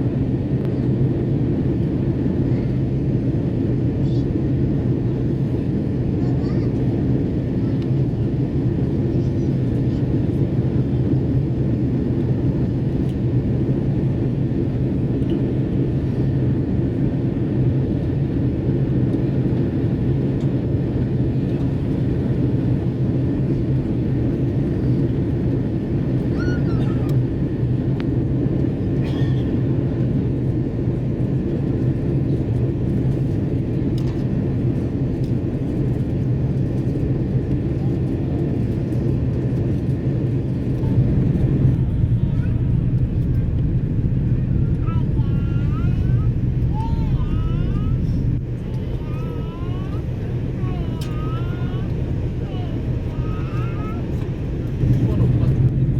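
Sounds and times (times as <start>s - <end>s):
airliner cabin engine drone: 0.0s - 55.9s.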